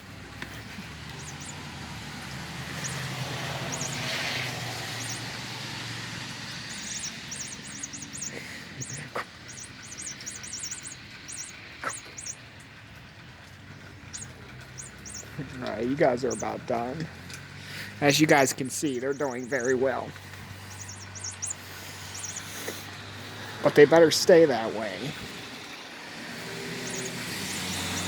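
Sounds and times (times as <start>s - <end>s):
small birds chirping: 0.0s - 28.0s
vehicle low rumble: 0.0s - 28.0s.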